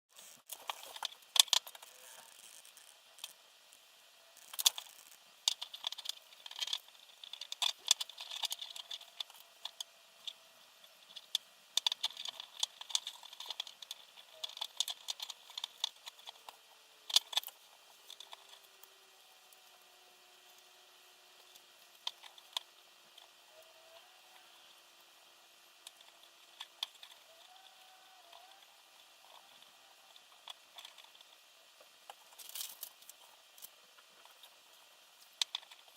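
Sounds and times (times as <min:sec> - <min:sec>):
small hard parts clicking and rattling: 0:00.2 - 0:35.9.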